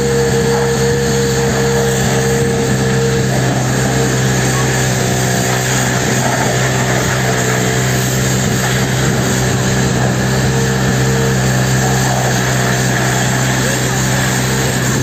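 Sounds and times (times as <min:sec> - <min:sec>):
pressure washer motor and pump drone: 0:00.0 - 0:15.0.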